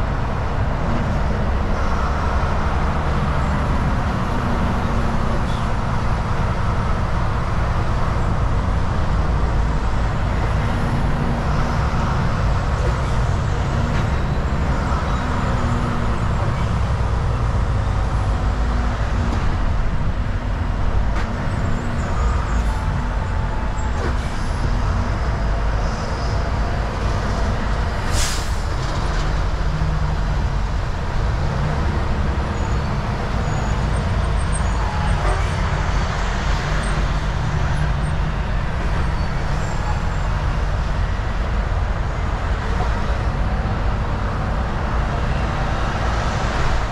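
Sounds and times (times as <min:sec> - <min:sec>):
road noise: 0:00.0 - 0:46.9
truck engine drone: 0:00.0 - 0:46.9.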